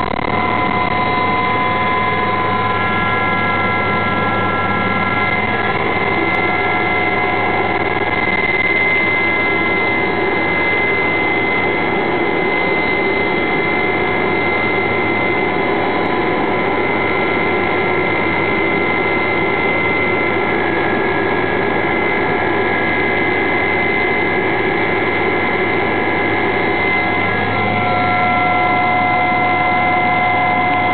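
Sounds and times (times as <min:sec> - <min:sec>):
helicopter turbine whine: 0:00.0 - 0:30.9
low engine drone: 0:00.0 - 0:30.9.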